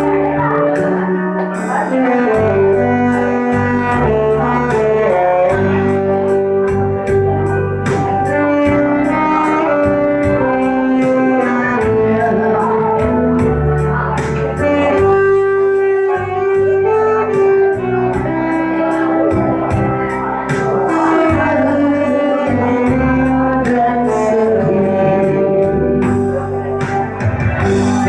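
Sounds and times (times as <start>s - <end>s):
backing track with hi-hat beat: 0.0s - 28.0s
saxophone melody: 0.0s - 28.0s.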